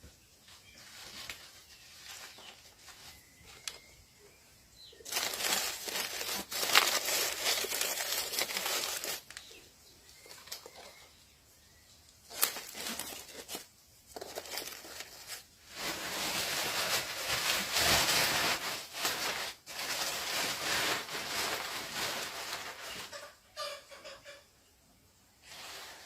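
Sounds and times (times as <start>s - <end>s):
rustling and crinkling: 0.0s - 11.2s, 12.0s - 23.8s, 25.4s - 26.0s.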